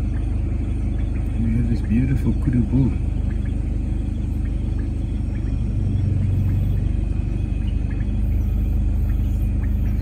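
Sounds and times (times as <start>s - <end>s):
car engine and road noise: 0.0s - 10.0s
deep hum: 0.0s - 10.0s.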